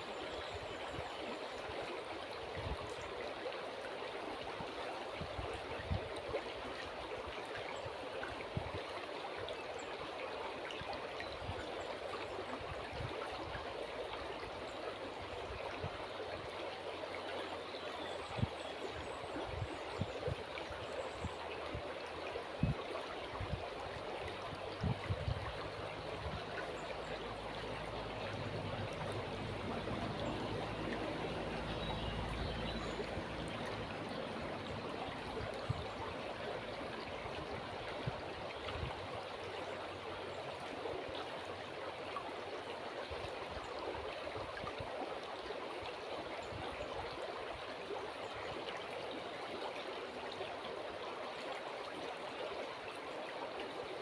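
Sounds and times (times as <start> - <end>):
river water rushing and gurgling: 0.0 - 54.0.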